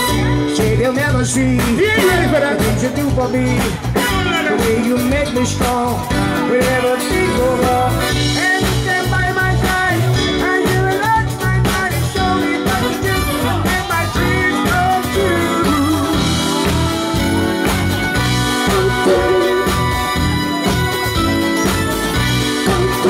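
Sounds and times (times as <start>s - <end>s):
live band playing dance music: 0.0s - 23.0s
people singing: 1.7s - 20.0s, 22.5s - 23.0s.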